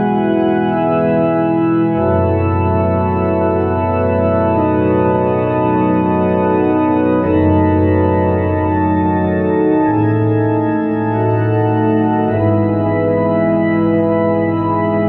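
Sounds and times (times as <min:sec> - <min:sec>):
organ playing slow hymn: 0:00.0 - 0:15.0.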